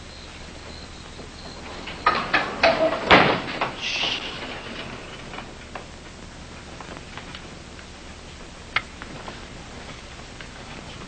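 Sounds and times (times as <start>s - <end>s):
soundtrack hum and hiss: 0.0s - 11.0s.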